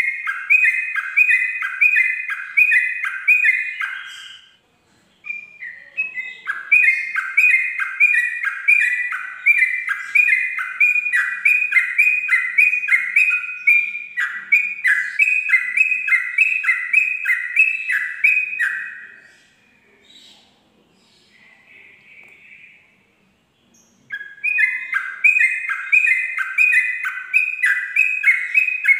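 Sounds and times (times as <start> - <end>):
bird singing whistled notes: 0.0 - 4.6, 5.2 - 20.5, 23.6 - 28.9.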